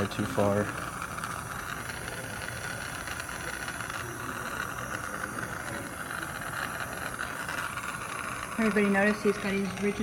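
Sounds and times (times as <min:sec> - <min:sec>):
torch flame hissing: 0:00.0 - 0:10.0.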